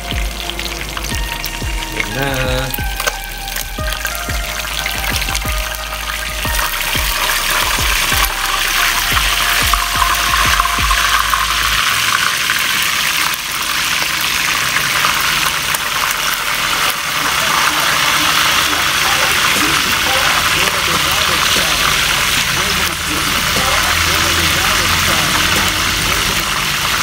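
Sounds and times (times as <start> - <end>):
oil sizzling: 0.0 - 27.0.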